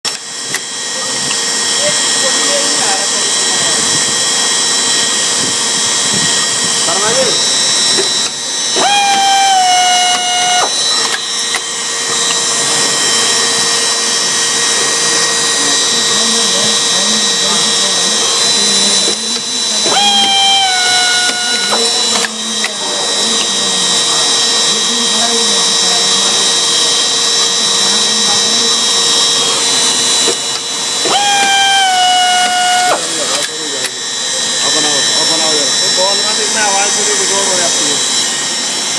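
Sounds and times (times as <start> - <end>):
drill spindle whine: 0.1 - 38.9
drilling machine hiss: 0.1 - 38.9.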